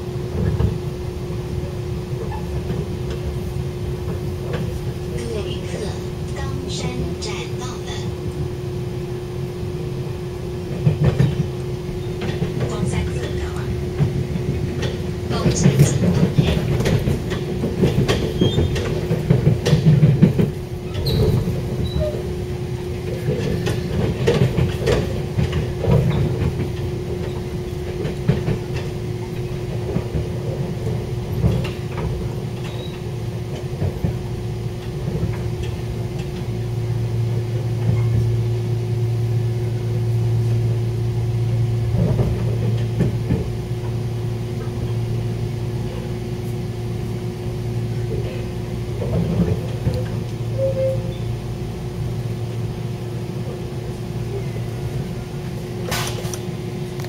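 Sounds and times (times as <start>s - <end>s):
wheels clicking on track: 0.0s - 8.6s, 9.8s - 38.5s, 39.2s - 57.0s
constant hum: 0.0s - 57.0s
train rumble: 0.0s - 57.0s.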